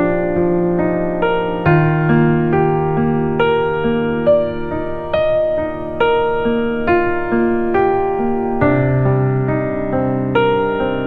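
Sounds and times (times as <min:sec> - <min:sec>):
slow electric piano melody: 0:00.0 - 0:11.0.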